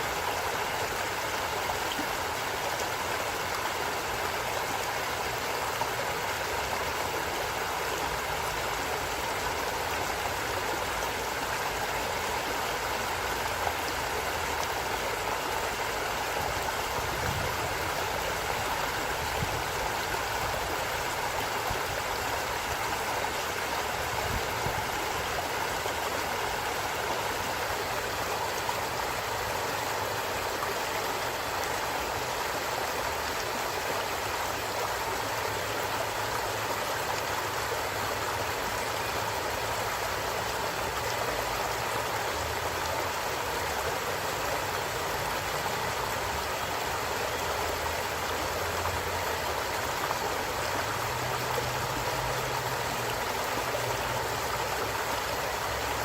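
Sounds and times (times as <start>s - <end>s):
stream rushing and gurgling: 0.0s - 56.0s.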